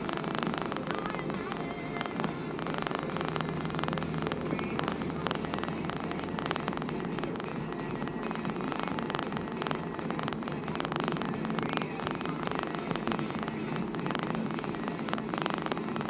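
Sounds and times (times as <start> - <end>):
faint crackles: 0.0 - 16.0
road and wind noise: 0.0 - 16.0.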